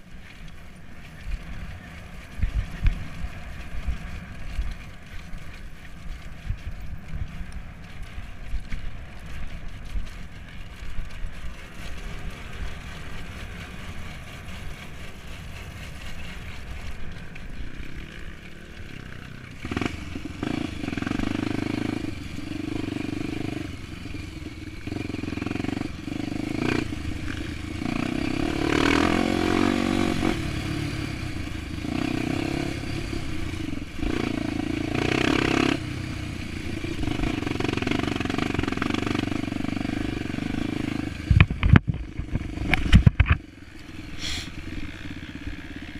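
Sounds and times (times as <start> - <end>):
motorcycle engine revving: 0.6 - 45.9.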